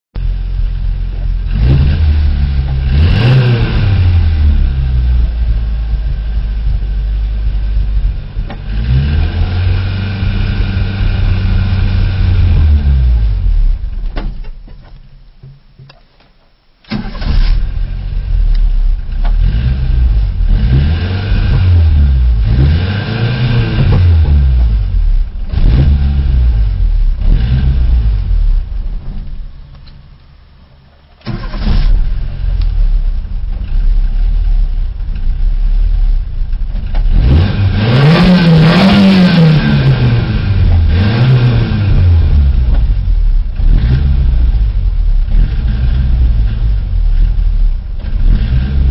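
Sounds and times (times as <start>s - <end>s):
car engine starting and revving: 0.2s - 14.1s, 16.9s - 29.7s, 31.1s - 48.9s.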